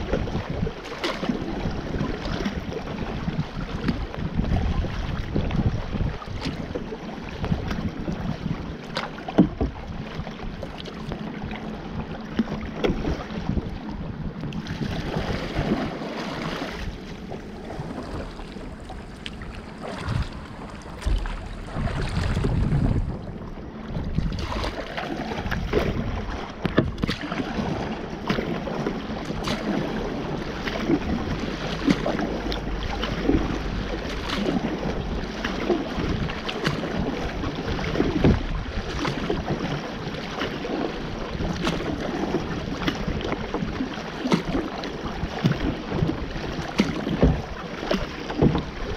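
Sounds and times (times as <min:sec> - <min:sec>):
paddle splashing water: 0:00.0 - 0:48.9
water lapping at hull: 0:00.0 - 0:48.9
wind on microphone: 0:00.0 - 0:48.9.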